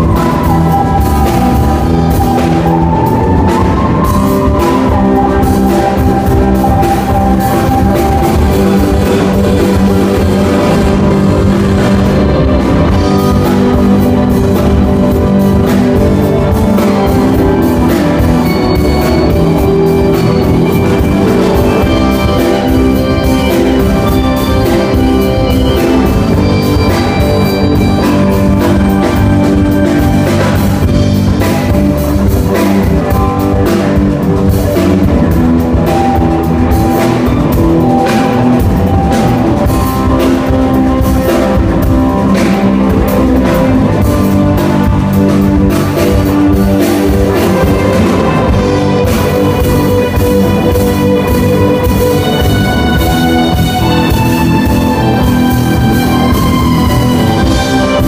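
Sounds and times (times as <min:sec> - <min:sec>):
bass guitar: 0:00.0 - 0:58.0
drum kit: 0:00.0 - 0:58.0
electric guitar: 0:00.0 - 0:58.0
keyboard: 0:00.0 - 0:58.0.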